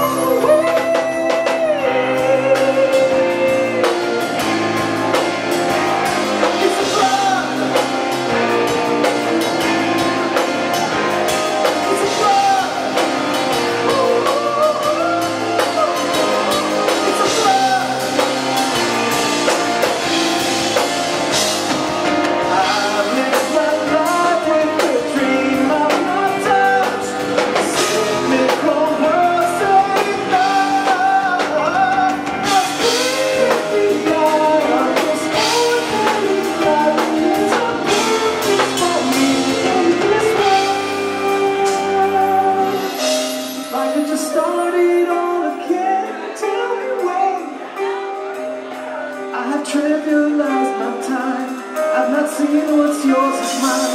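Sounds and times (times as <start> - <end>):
drum kit: 0.0 - 53.9
electric guitar: 0.0 - 53.9
keyboards: 0.0 - 53.9
man singing: 0.0 - 53.9.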